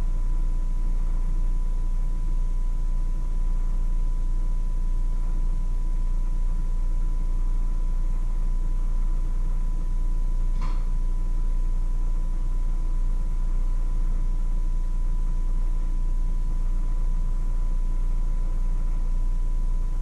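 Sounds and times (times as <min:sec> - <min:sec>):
faint high whine: 0:00.0 - 0:20.0
steady low hum: 0:00.0 - 0:20.0.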